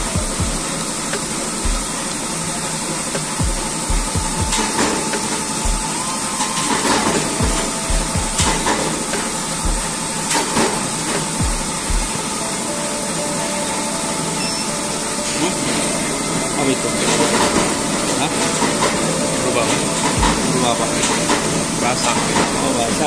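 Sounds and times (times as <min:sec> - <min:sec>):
steady machine hiss: 0:00.0 - 0:23.0.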